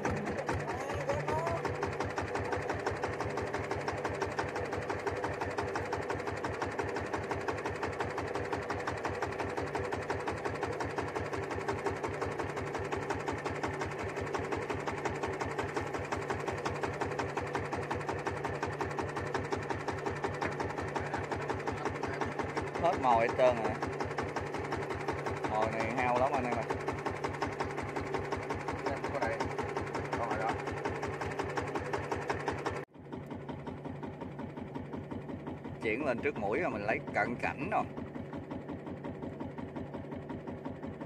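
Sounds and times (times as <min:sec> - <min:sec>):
small boat engine running: 0:00.0 - 0:41.0.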